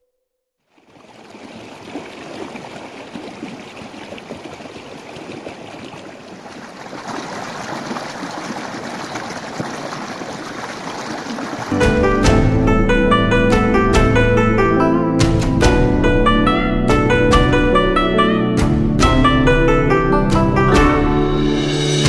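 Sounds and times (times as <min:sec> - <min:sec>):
rushing water: 0:00.6 - 0:18.4.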